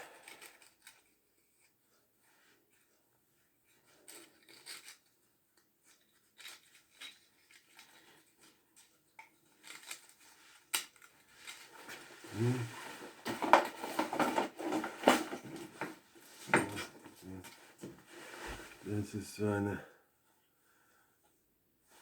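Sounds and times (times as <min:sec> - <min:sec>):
soft rustling of packaging: 0:00.0 - 0:20.5.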